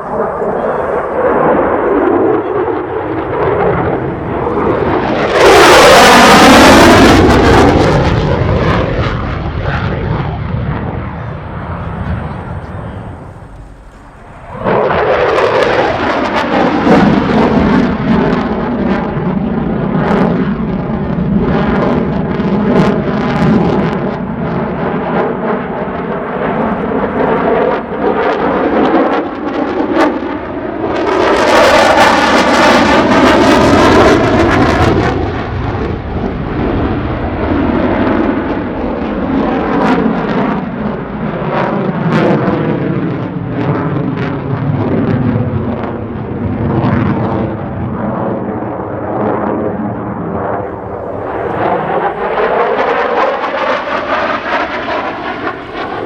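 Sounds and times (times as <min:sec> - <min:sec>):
jet engine roar with crackling: 0:00.0 - 0:56.0
jet passing whoosh: 0:00.0 - 0:56.0.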